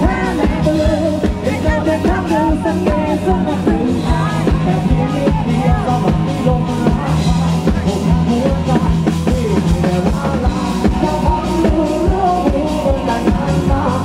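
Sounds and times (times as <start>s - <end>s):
man singing: 0.0s - 14.0s
rock band playing: 0.0s - 14.0s.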